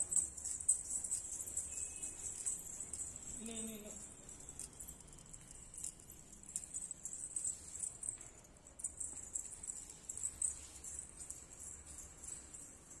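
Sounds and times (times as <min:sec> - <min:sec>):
small metal bells jingling: 0:00.0 - 0:13.0.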